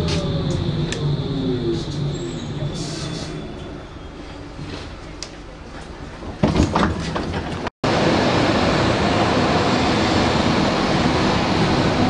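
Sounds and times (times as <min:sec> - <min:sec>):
train rumbling along platform: 0:00.0 - 0:06.4, 0:07.4 - 0:12.0.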